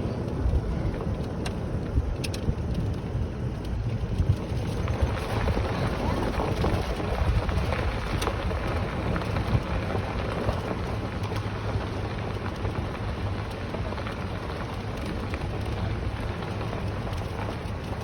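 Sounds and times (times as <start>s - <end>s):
vehicle driving slowly: 0.0s - 18.0s.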